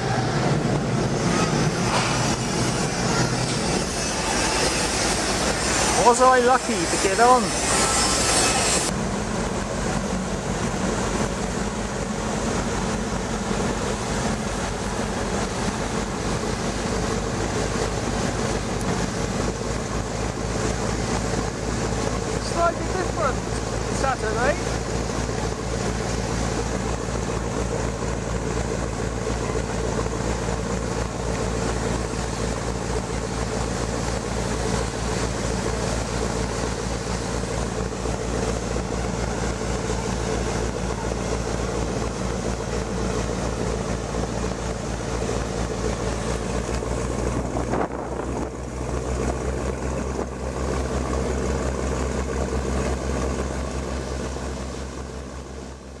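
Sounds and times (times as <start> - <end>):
ferry engines droning: 0.0 - 56.0
water and wind hiss: 0.0 - 56.0.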